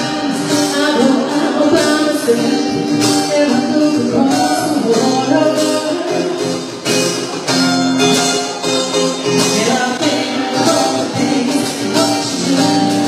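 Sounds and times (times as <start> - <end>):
music with singing: 0.0 - 13.0.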